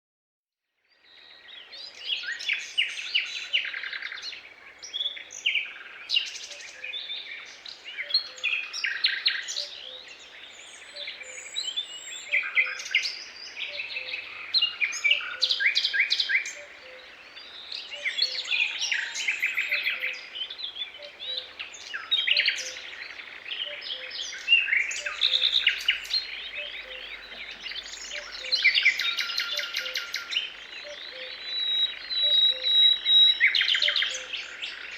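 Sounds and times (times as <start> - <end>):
songbirds singing: 0.8 - 34.9.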